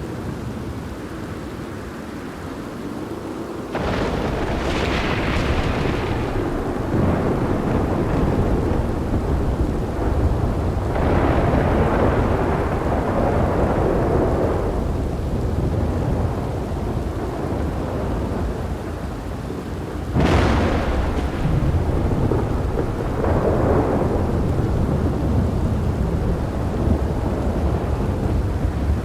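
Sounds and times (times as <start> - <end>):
steady rain: 0.0 - 29.0
rolling thunder: 3.7 - 29.0
sharp thunder crack: 3.8 - 18.8, 20.1 - 29.0.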